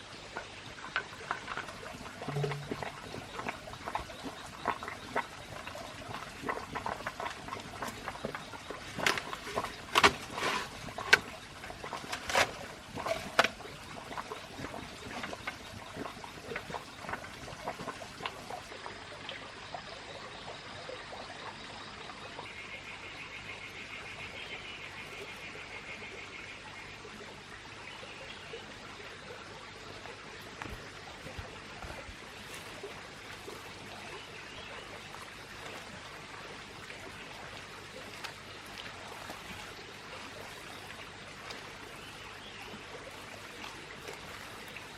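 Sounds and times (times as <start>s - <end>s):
water trickling: 0.0s - 20.5s, 26.6s - 44.9s.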